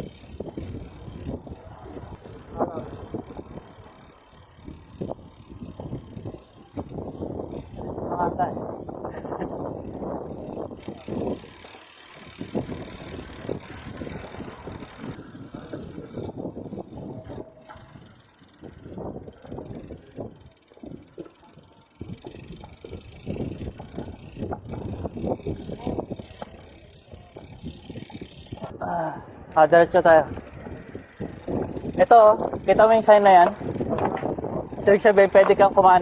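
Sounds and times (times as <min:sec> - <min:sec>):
bike tyres rumbling on wet road: 0:00.0 - 0:28.8, 0:30.2 - 0:36.0
wind on microphone: 0:00.0 - 0:36.0.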